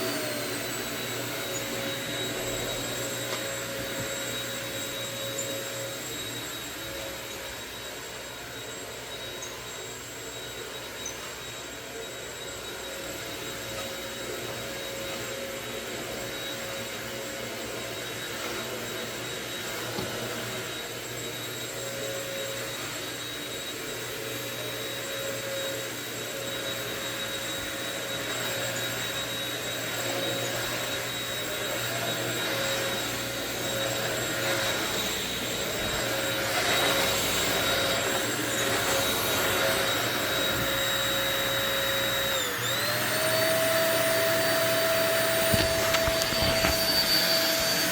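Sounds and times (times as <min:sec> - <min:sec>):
stick vacuum running: 0:00.0 - 0:47.9.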